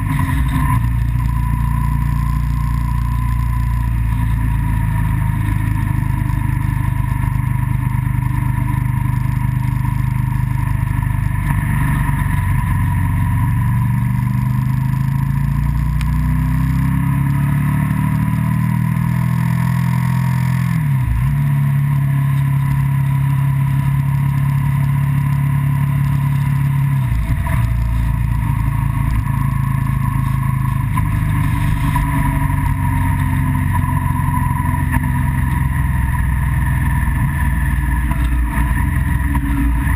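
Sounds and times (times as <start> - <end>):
road and wind noise: 0.0 - 39.9
vehicle engine accelerating: 0.0 - 39.9.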